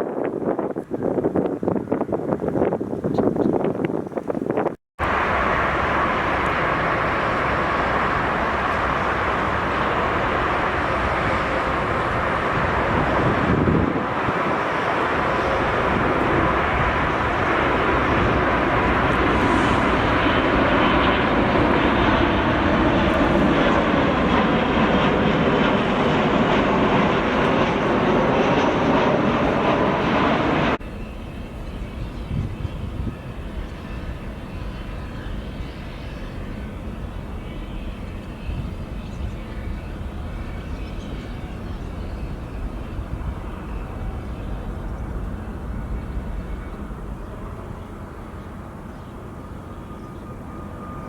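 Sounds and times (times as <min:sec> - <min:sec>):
jet engines running: 0:05.0 - 0:51.0.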